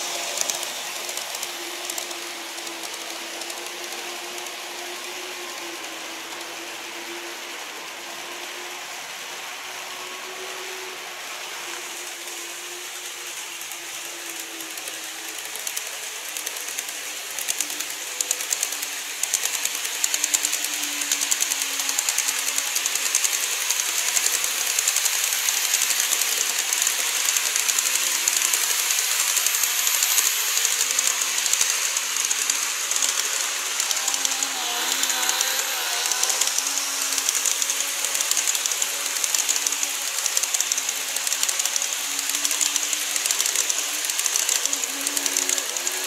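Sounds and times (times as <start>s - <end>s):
model train wheels clicking on rails: 0.0s - 46.0s.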